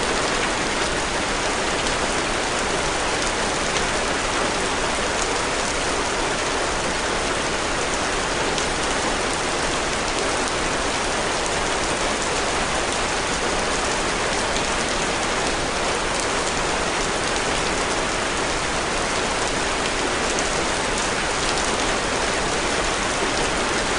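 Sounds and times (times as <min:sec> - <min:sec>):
steady rain: 0:00.0 - 0:23.9.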